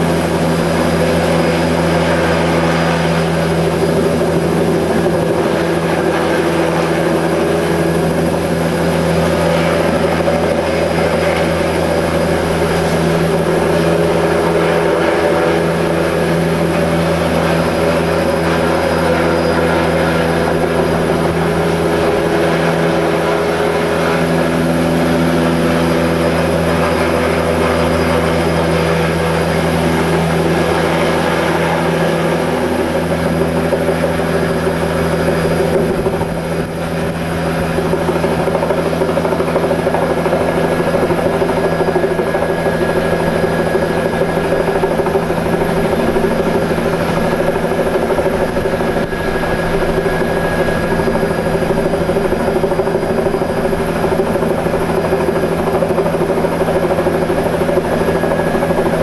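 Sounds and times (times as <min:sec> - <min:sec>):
model aircraft engine drone: 0:00.0 - 0:59.0.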